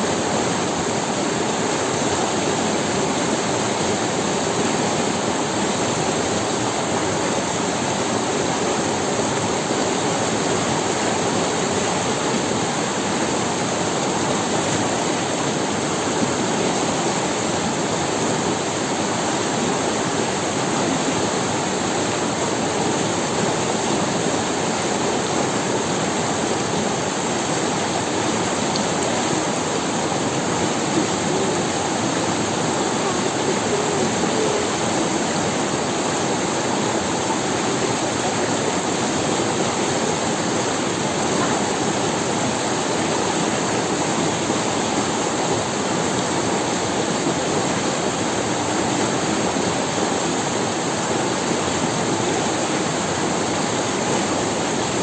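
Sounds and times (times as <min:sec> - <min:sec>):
river water running over stones: 0:00.0 - 0:55.0.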